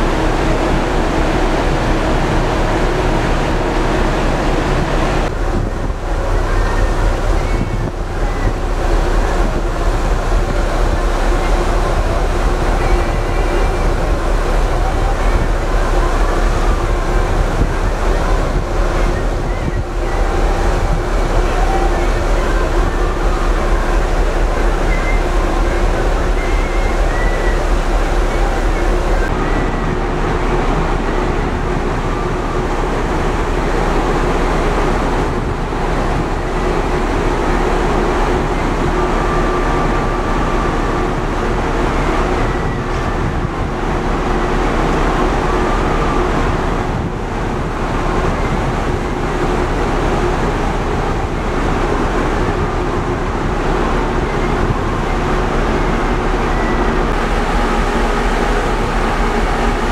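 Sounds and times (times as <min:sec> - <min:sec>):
ship engines: 0:00.0 - 0:59.9
water rushing along hull: 0:00.0 - 0:59.9
wind across deck: 0:00.0 - 0:59.9.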